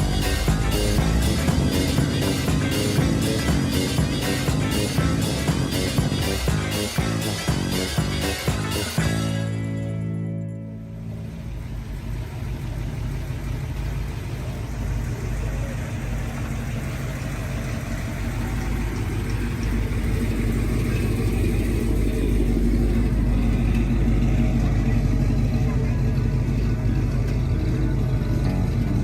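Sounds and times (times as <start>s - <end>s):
car engine running at low revs: 0.0s - 29.0s.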